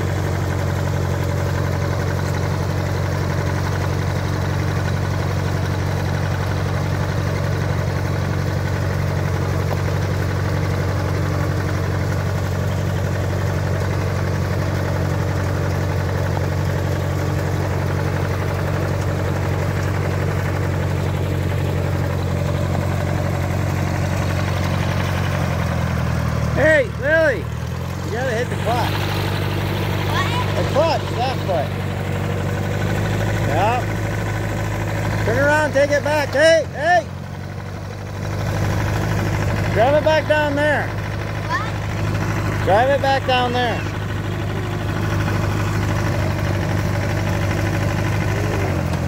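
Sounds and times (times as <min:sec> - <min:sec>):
tractor engine humming: 0:00.0 - 0:49.0.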